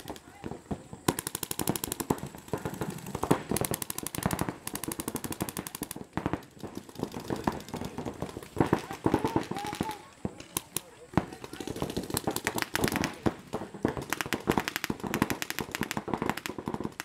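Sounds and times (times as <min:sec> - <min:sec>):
paintball markers firing: 0:00.0 - 0:17.0.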